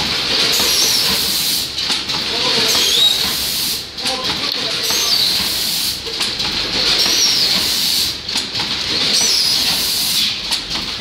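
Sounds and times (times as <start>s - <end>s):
packing machine hissing: 0.1s - 6.1s, 6.7s - 10.5s.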